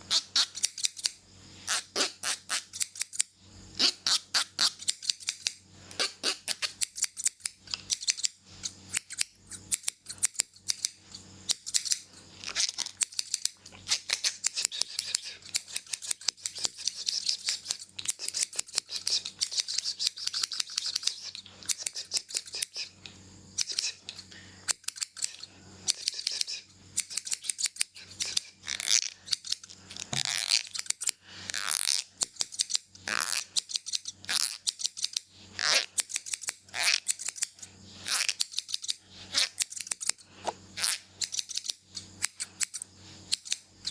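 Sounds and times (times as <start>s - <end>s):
scissors snipping: 0.1s - 43.9s.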